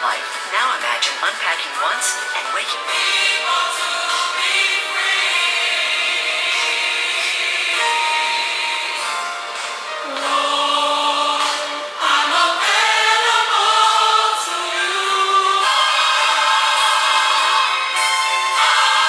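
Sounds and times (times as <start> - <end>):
gospel choir singing: 2.8 - 19.0.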